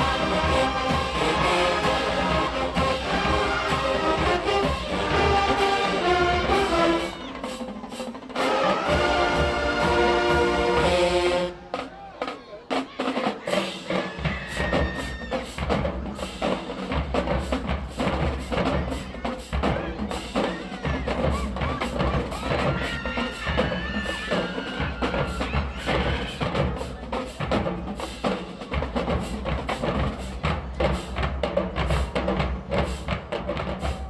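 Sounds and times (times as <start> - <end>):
marching band brass playing: 0.0 - 34.0
snare and bass drum cadence: 0.0 - 34.0.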